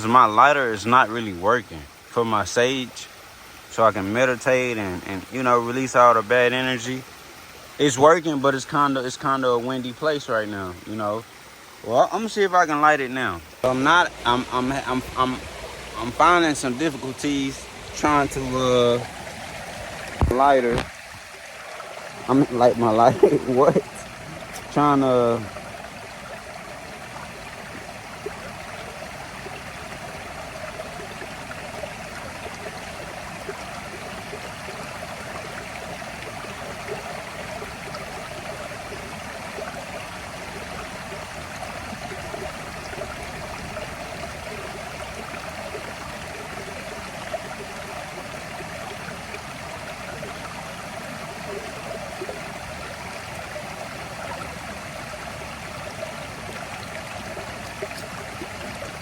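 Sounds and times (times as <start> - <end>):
stream rushing: 0.0 - 59.0.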